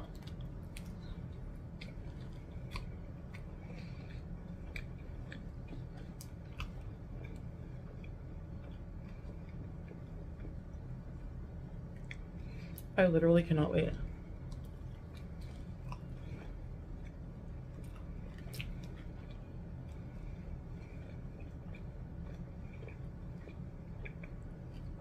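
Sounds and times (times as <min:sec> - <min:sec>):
person chewing: 0:00.0 - 0:10.9, 0:11.9 - 0:12.9, 0:14.4 - 0:25.0
steady low hum: 0:00.0 - 0:25.0.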